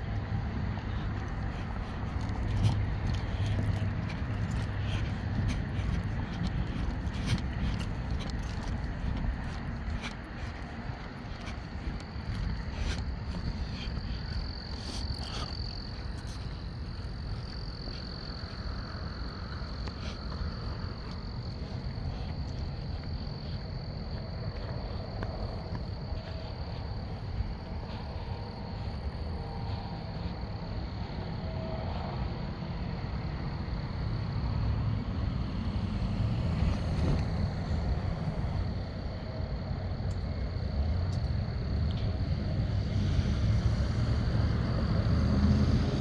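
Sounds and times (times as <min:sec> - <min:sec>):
high-pitched frog and insect calls: 0:00.0 - 0:46.0
low rumble of traffic: 0:00.0 - 0:46.0.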